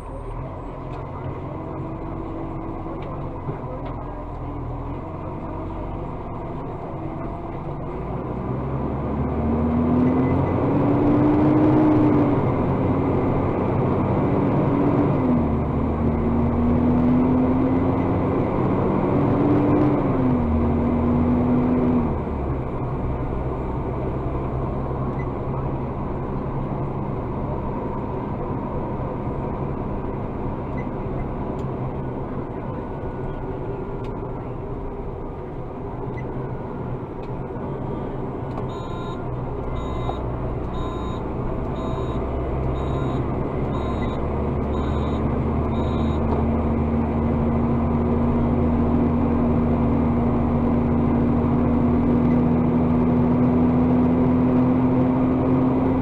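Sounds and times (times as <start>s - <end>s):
diesel truck engine revving: 4.2s - 56.0s.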